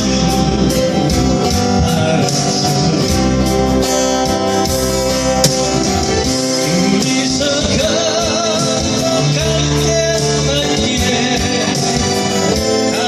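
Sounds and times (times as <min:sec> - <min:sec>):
guitar ballad instrumental: 0:00.0 - 0:13.0.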